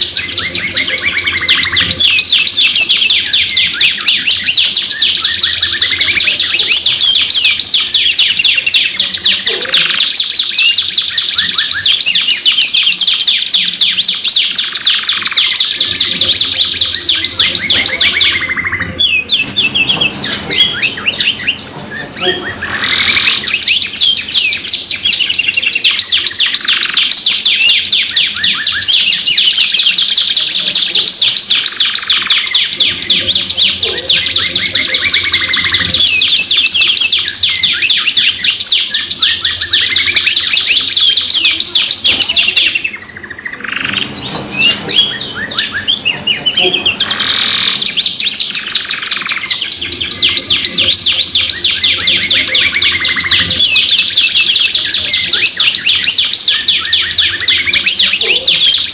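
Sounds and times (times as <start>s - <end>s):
canaries singing trills: 0.0s - 58.9s.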